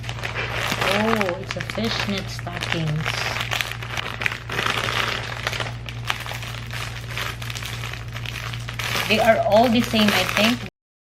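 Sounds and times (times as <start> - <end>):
plastic packaging crinkling: 0.0 - 10.7
steady low hum: 0.0 - 10.7.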